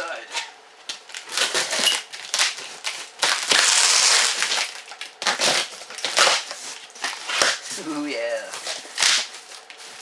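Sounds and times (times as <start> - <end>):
packaging crinkling and scraping: 0.9 - 10.0.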